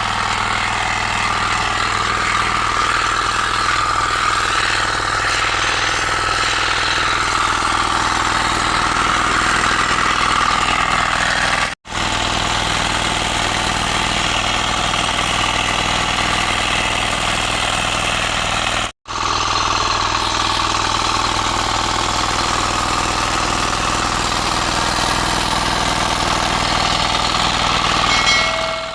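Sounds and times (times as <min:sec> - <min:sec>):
power weeder engine running: 0:00.0 - 0:28.9.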